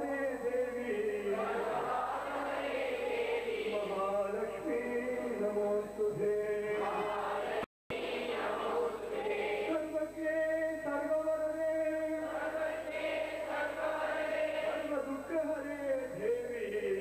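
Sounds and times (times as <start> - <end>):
group chanting devotional song: 0.0 - 17.0.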